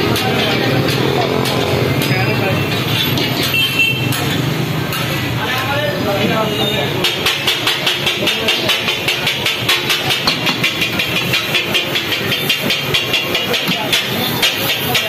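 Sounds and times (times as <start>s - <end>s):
metal spatulas clattering on griddle: 0.0s - 5.8s, 6.9s - 15.0s
market noise: 0.0s - 15.0s.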